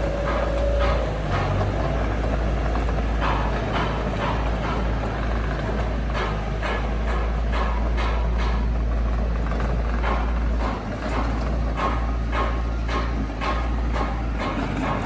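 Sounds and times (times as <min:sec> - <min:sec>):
heavy machine engine rumbling: 0:00.0 - 0:15.0
sharp knocks and clanks: 0:00.0 - 0:15.0.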